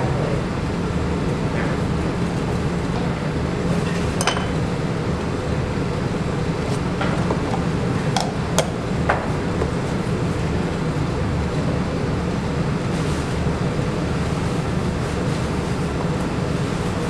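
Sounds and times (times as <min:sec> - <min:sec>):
low hum of machinery: 0:00.0 - 0:17.0.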